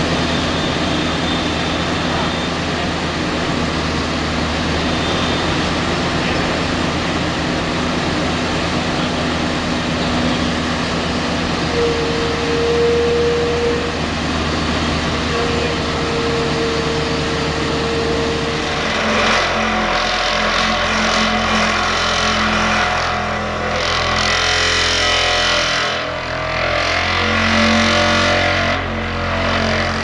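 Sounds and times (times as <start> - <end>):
excavator diesel engine under load: 0.0 - 30.0
mechanical whine rising in pitch: 0.0 - 30.0.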